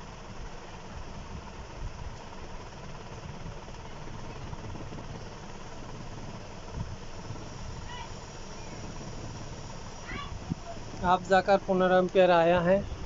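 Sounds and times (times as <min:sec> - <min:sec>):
battery charger hum: 0:00.0 - 0:13.0.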